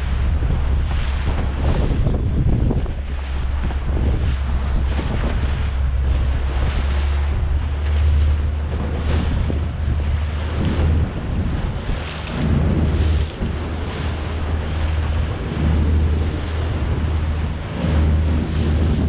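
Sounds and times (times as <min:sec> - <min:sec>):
water slapping against boat hull: 0:00.0 - 0:19.0
wind buffeting microphone: 0:00.0 - 0:19.0.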